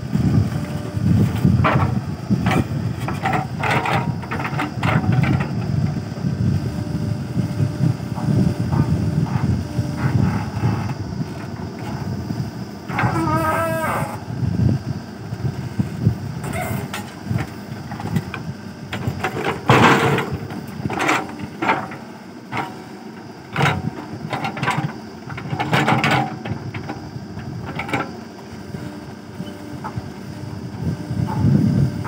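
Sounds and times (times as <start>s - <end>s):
diesel engine under load: 0.0s - 32.0s.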